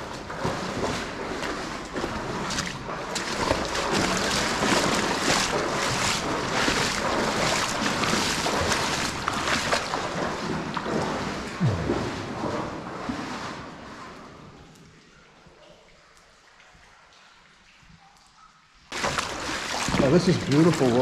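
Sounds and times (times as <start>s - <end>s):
footsteps splashing through water: 0.0s - 17.8s, 18.9s - 21.0s.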